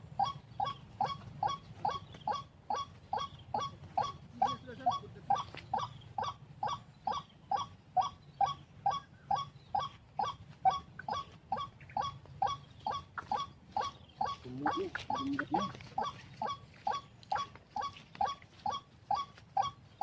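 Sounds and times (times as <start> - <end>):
bird call repeated wak notes: 0.0 - 20.0.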